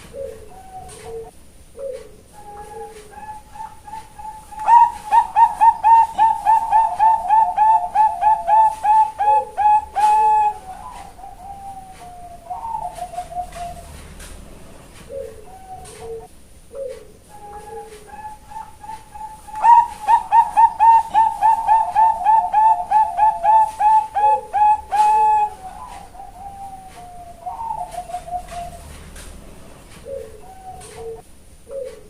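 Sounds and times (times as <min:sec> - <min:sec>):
dove cooing: 0:00.0 - 0:32.0.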